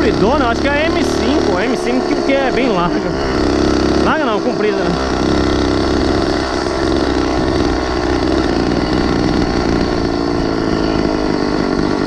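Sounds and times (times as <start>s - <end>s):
small motor engine running: 0.0s - 12.0s.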